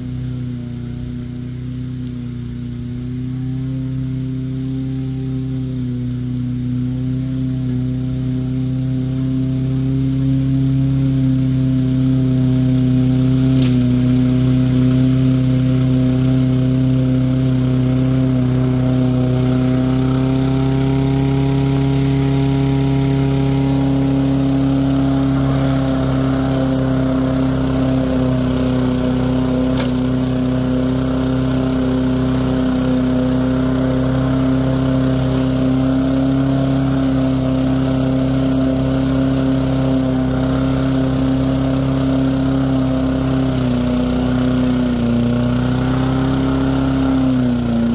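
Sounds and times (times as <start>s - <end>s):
lawn mower engine running: 0.0s - 47.9s.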